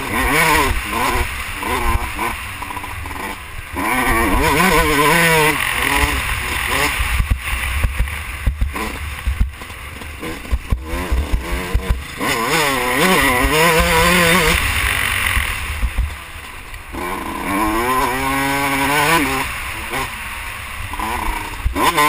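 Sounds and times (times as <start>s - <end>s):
motocross bike engine revving: 0.0s - 22.0s.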